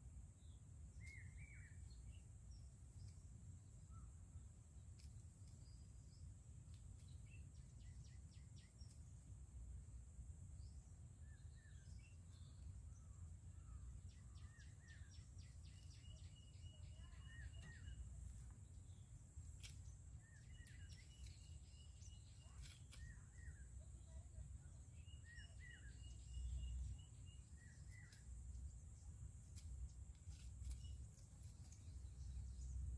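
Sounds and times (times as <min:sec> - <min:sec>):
small birds chirping: 0:00.4 - 0:09.4, 0:10.5 - 0:32.9.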